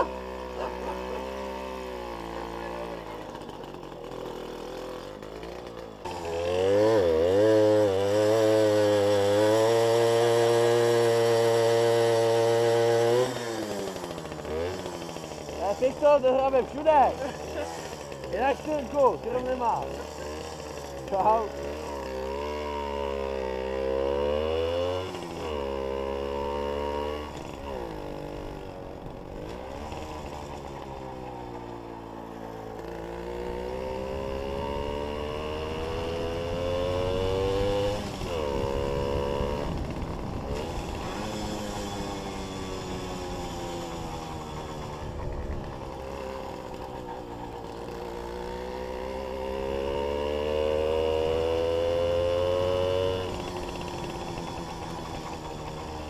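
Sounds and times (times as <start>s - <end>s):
moped engine accelerating: 0.0s - 56.0s.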